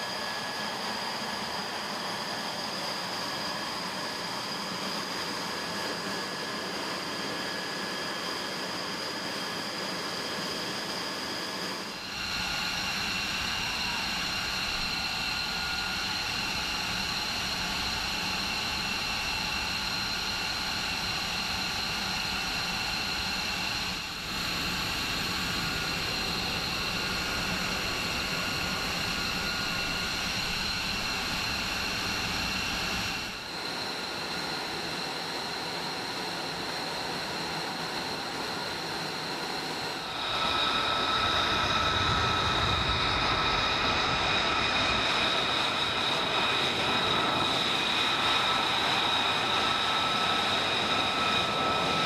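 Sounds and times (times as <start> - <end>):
jet engine idling: 0.0 - 52.0.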